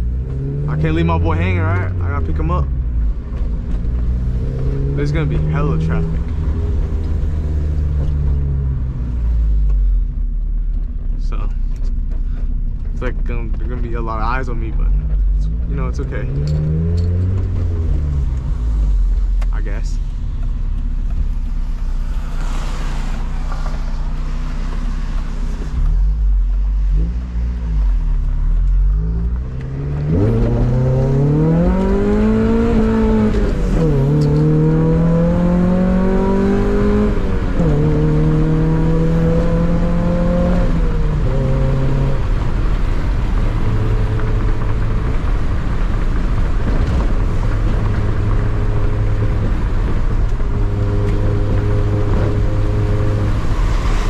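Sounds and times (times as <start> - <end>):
car engine revving and shifting: 0.0 - 10.0, 14.7 - 54.0.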